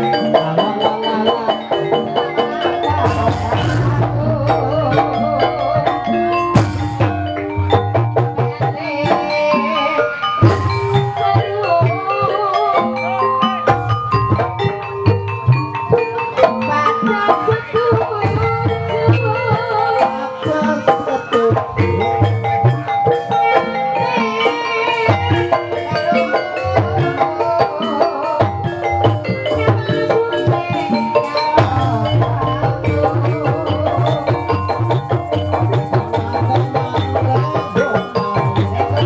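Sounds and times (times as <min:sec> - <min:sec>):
hand drum beating: 0:00.0 - 0:39.0
tuned metal percussion: 0:00.0 - 0:39.0.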